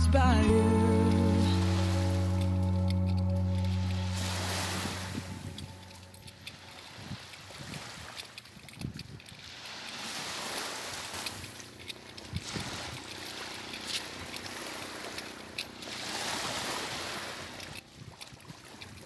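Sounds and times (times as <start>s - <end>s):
small waves washing on beach: 1.0s - 19.0s.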